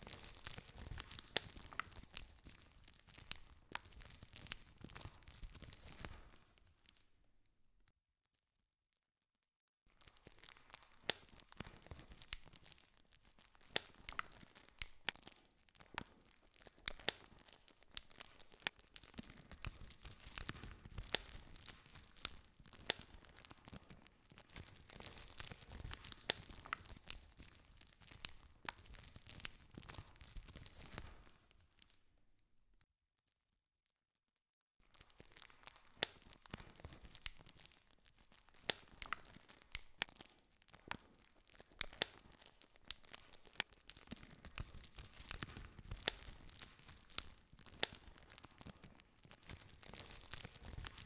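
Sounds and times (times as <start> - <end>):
campfire crackling and popping: 0.0 - 6.9, 10.0 - 31.9, 34.9 - 51.0.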